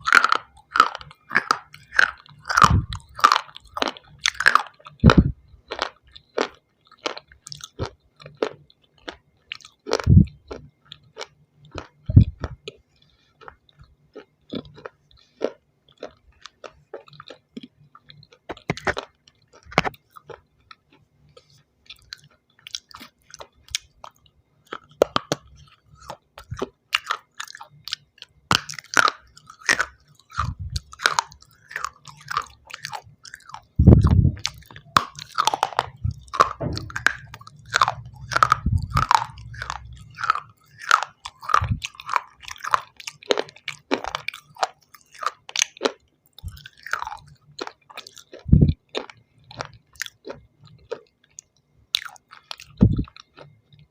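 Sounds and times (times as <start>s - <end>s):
chewing hard stone crunches: 0.0s - 53.9s.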